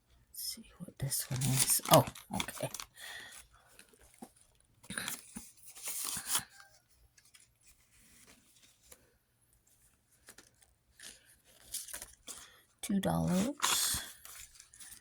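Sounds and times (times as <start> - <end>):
paper rustling: 1.0 - 15.0.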